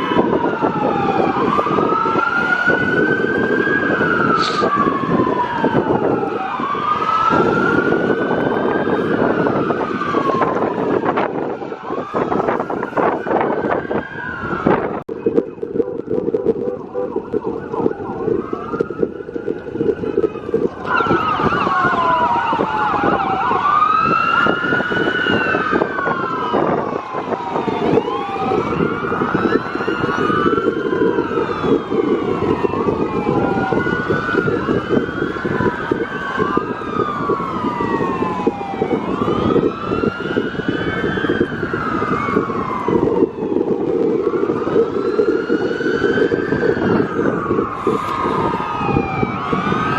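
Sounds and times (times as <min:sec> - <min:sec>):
emergency sirens wailing: 0:00.0 - 0:49.9
vehicle rumble: 0:00.0 - 0:49.9.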